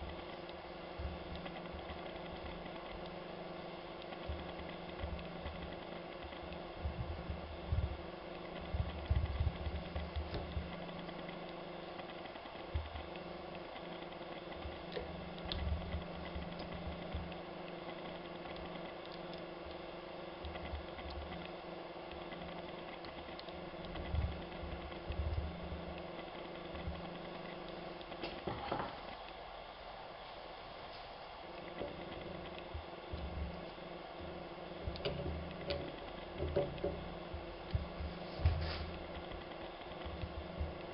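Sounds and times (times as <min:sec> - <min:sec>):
steady hum: 0:00.0 - 0:40.9.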